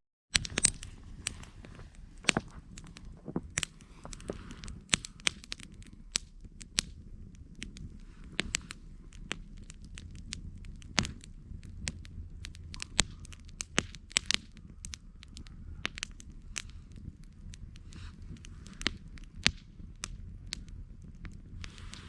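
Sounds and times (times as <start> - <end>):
campfire crackling: 0.3 - 22.0
low rumble: 0.4 - 22.0.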